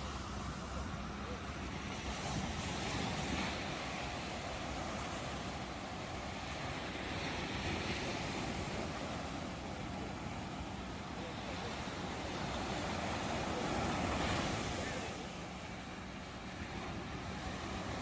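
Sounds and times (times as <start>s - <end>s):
waves washing onto shore: 0.0s - 18.0s.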